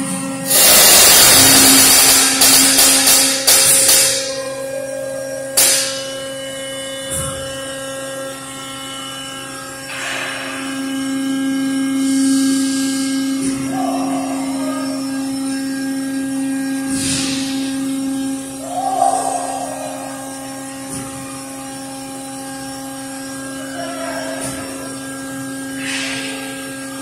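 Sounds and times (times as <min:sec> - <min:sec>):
choppy hissing rush: 0:00.0 - 0:04.8, 0:09.9 - 0:27.0
machine humming: 0:00.0 - 0:27.0.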